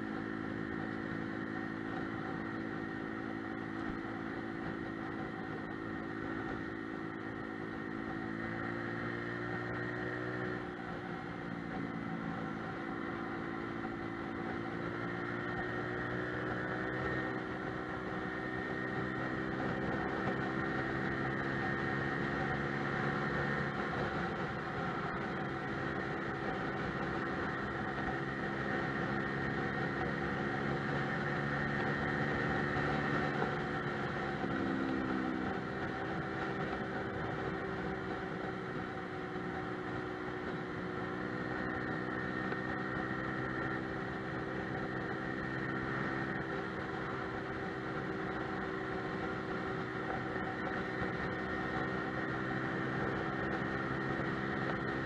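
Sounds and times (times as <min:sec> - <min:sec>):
scooter engine running: 0:00.0 - 0:55.0
wind and road noise: 0:00.0 - 0:55.0.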